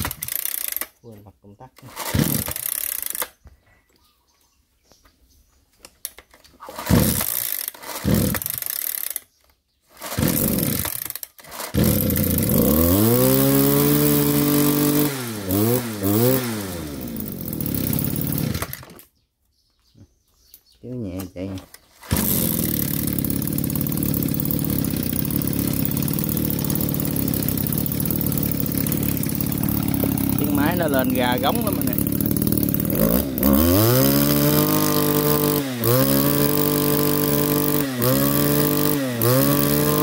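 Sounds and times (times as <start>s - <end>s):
brush cutter engine revving: 0.0s - 1.1s, 1.7s - 3.4s, 6.1s - 19.1s, 21.2s - 40.0s
recoil starter pulls: 0.0s - 1.1s, 1.7s - 3.4s, 6.0s - 19.1s, 21.2s - 40.0s.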